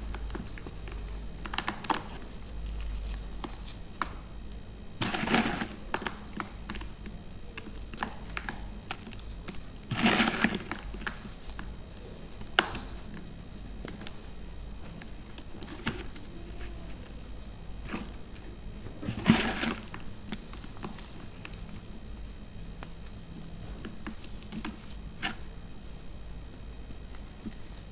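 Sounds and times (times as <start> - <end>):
small crackles: 0.0 - 27.9.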